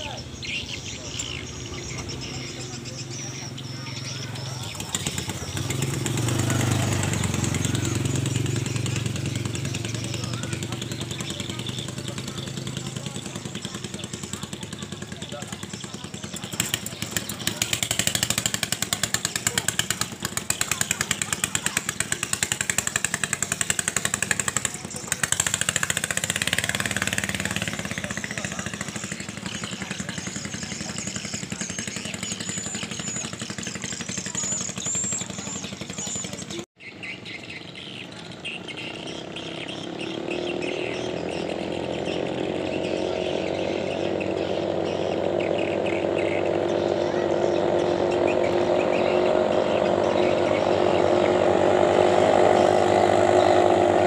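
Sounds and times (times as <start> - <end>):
boat engine at high revs: 0.0 - 54.0
distant boat engines droning: 0.0 - 54.0.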